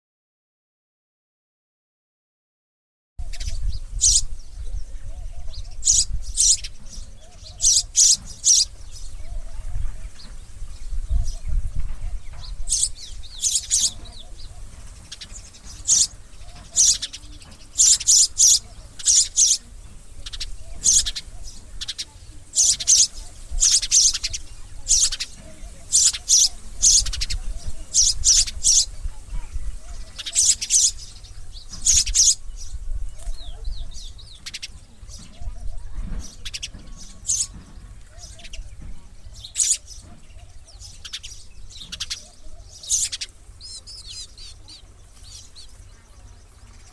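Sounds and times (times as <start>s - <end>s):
sparrow chirping: 3.2s - 46.9s.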